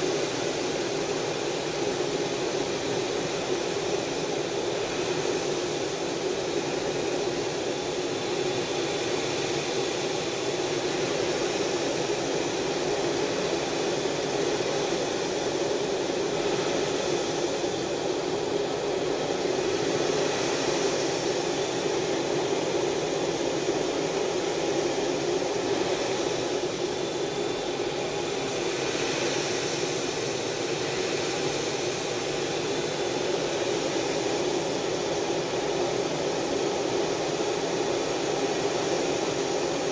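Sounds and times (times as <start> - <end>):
jet engine drone in cockpit: 0.0 - 39.9.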